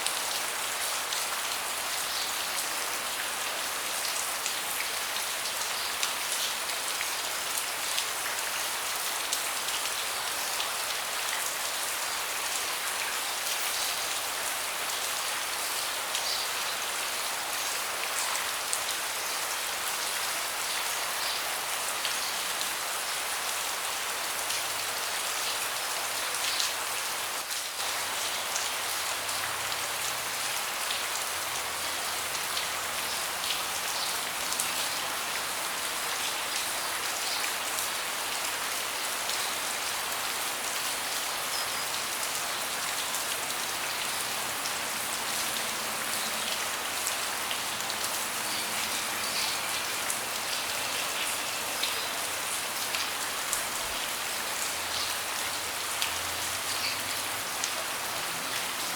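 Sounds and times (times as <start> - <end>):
rain drops ticking on hard surfaces: 0.0 - 58.9.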